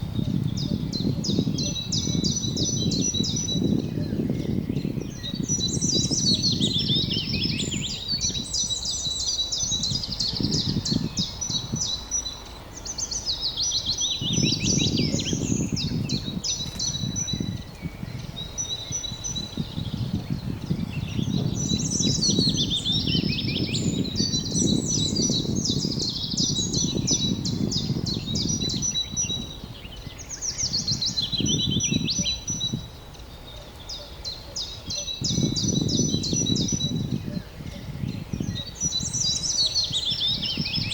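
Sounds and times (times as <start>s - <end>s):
wild birds singing and trilling: 0.0s - 40.9s.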